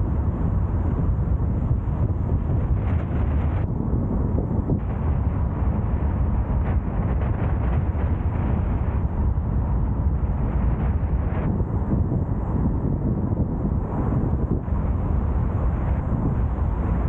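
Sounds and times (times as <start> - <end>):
tyres rumbling on road: 0.0 - 17.0.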